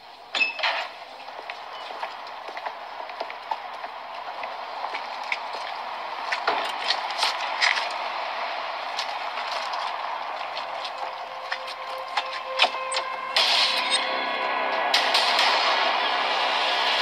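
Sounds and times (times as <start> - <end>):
outdoor background noise: 0.0 - 17.0
held musical tone: 1.1 - 17.0.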